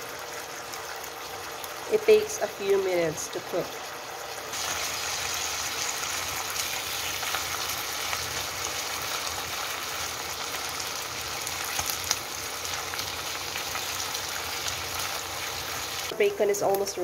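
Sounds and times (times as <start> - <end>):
bacon sizzling in a frying pan: 0.0 - 17.0.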